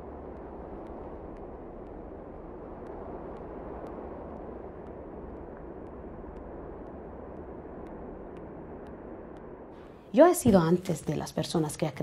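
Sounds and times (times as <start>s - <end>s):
faint ticks: 0.0s - 9.8s
low rumbling noise: 0.0s - 11.4s.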